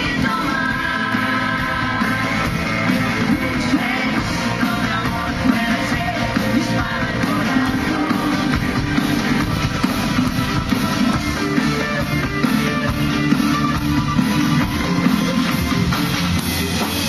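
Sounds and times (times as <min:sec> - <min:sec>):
electric guitar: 0:00.0 - 0:17.0
live pop-rock band: 0:00.0 - 0:17.0.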